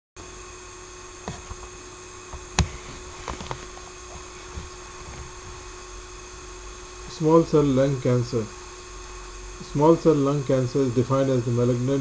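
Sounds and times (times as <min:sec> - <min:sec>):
room tone hiss and hum: 0:00.2 - 0:12.0.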